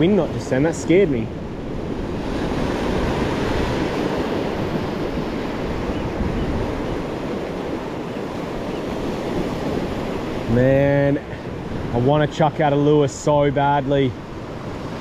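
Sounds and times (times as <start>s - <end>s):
small waves washing in: 0.0s - 15.0s
wind on microphone: 0.0s - 15.0s.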